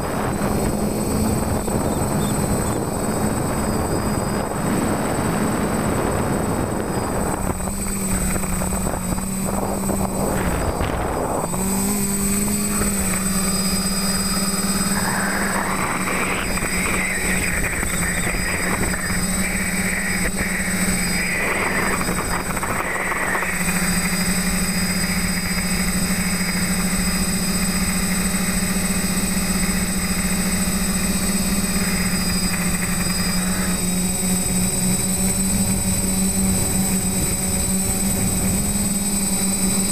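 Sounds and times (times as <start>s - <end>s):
quadcopter propellers buzzing: 0.0s - 39.9s
wind on microphone: 0.0s - 39.9s.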